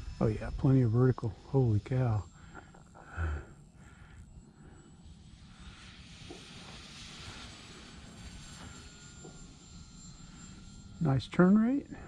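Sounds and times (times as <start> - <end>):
distant model airplane whine: 0.0 - 12.0.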